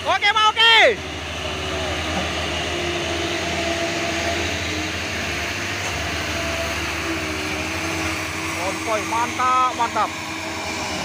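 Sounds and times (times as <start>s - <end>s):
diesel trucks rumbling past: 0.0s - 11.0s.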